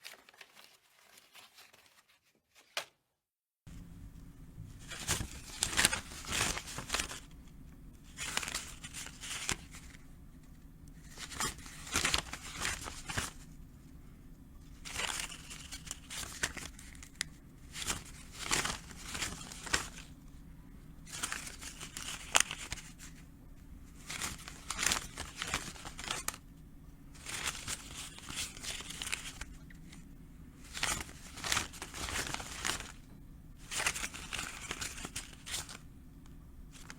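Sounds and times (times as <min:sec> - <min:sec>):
banknotes rustling: 0:00.0 - 0:02.9, 0:04.7 - 0:07.4, 0:08.0 - 0:14.0, 0:14.6 - 0:20.4, 0:21.0 - 0:26.5, 0:27.1 - 0:36.9.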